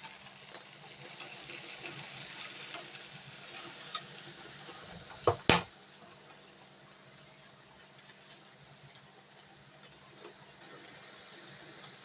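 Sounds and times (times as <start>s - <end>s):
sandwich sizzling in a toaster: 0.0s - 12.0s.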